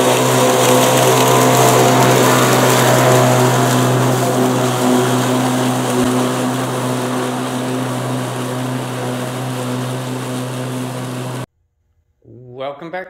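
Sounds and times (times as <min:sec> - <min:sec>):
electric lawn mower cutting grass: 0:00.0 - 0:11.5.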